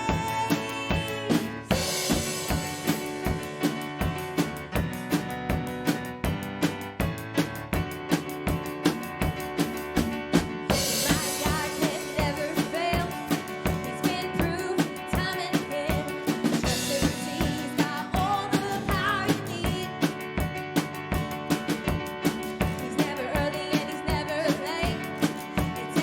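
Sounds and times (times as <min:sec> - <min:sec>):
drum kit beat: 0:00.0 - 0:26.0
live band playing: 0:00.0 - 0:26.0.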